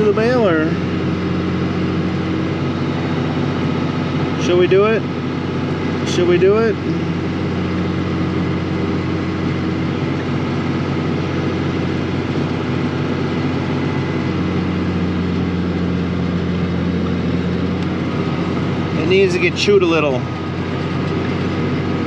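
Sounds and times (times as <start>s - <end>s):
baler mechanical hum: 0.0s - 22.0s
tractor engine running: 0.0s - 22.0s.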